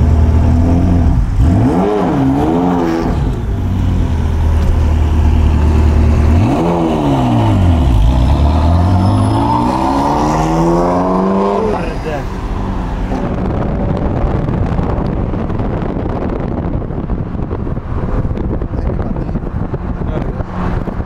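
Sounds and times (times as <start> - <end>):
car accelerating: 0.0 - 21.0
car engine idling and revving: 0.0 - 21.0.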